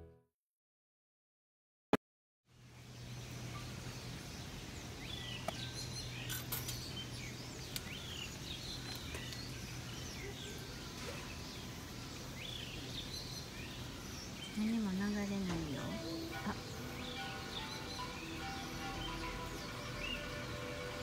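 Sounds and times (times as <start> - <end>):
small birds chirping: 2.5 - 21.0.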